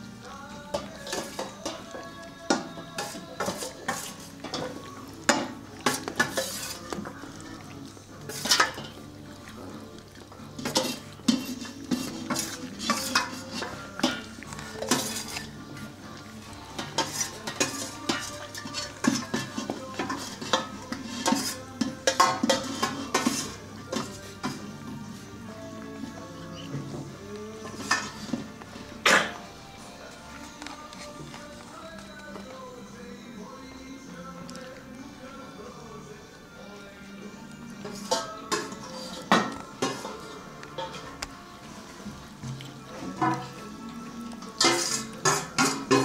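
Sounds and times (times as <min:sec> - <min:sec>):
metal bowls clanking on tiles: 0:00.6 - 0:29.5, 0:37.7 - 0:46.0.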